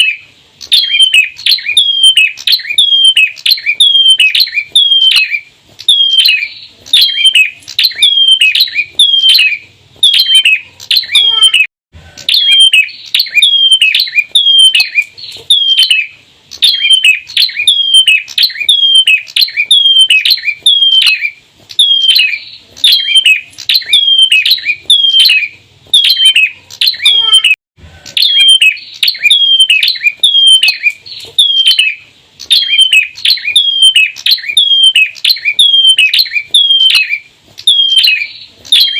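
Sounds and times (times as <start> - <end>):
bird calling sharp notes: 0.0 - 38.9.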